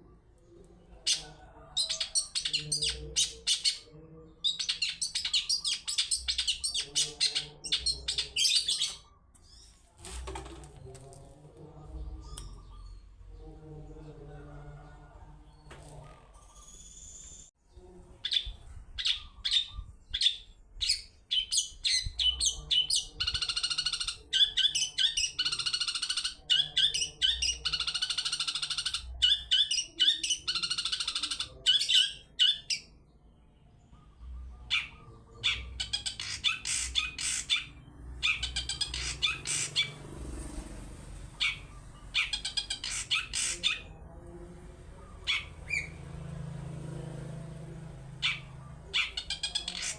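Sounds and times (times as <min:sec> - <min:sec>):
bird singing harsh chatter: 0:00.0 - 0:14.3, 0:15.4 - 0:17.5, 0:18.2 - 0:40.0, 0:41.3 - 0:44.1, 0:44.9 - 0:46.2, 0:48.1 - 0:49.9.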